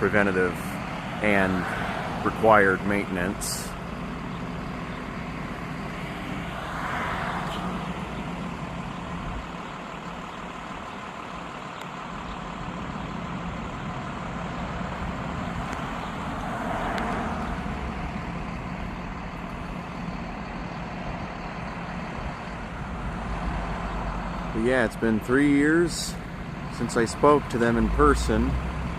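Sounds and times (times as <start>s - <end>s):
low engine hum: 0.0s - 28.9s
vehicles passing: 0.0s - 28.9s.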